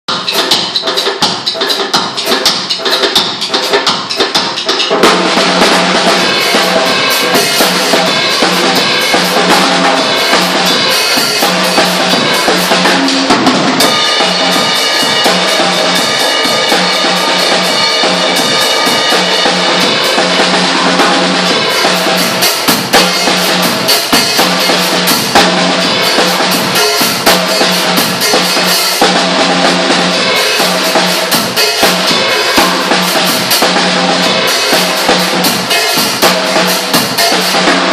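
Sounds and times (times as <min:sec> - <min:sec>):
drum kit beat: 0:00.1 - 0:37.9.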